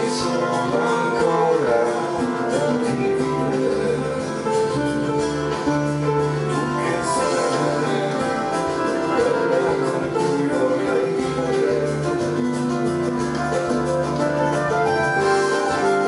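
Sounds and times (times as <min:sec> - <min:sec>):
keyboard playing slow chords: 0:00.0 - 0:16.0
steady instrumental accompaniment: 0:00.0 - 0:16.0.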